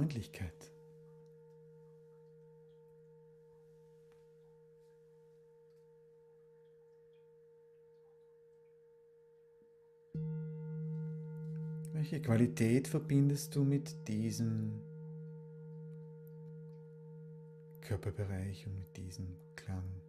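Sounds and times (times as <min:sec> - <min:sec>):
singing bowl ringing: 0:00.0 - 0:20.0.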